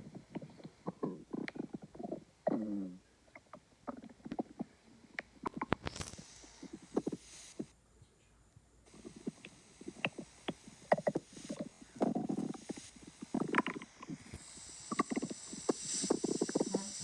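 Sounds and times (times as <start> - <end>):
stomach growling: 0.0 - 7.7, 8.9 - 17.0.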